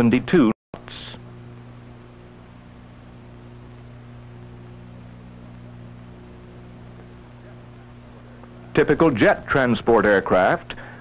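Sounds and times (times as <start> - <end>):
film soundtrack hiss: 0.0 - 11.0
low mains hum: 0.0 - 11.0.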